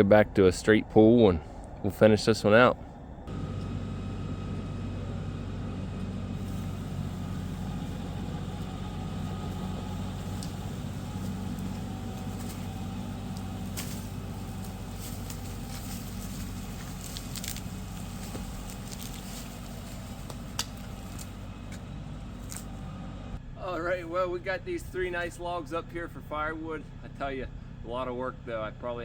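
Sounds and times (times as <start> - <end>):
tractor engine running: 2.8 - 29.0.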